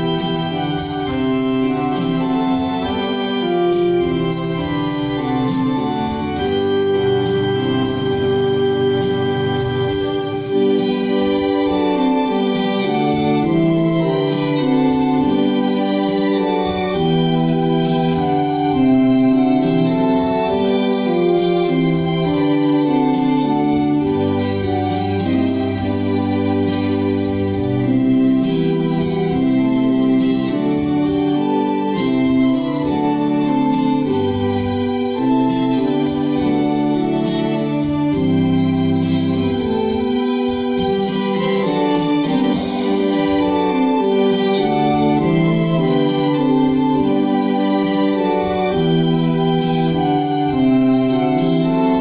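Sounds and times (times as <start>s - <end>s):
electronic organ playing hymn: 0.0s - 52.0s
light ticking beat: 0.0s - 52.0s.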